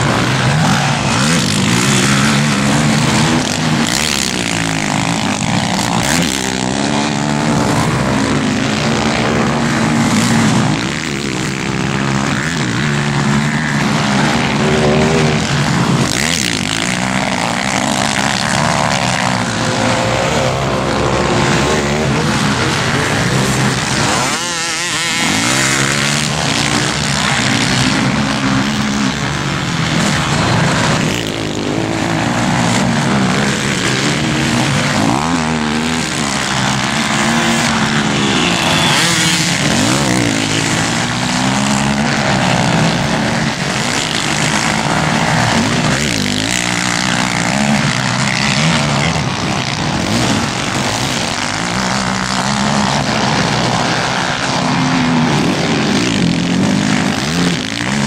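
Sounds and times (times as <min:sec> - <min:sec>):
quad bike engines revving: 0:00.0 - 0:58.0.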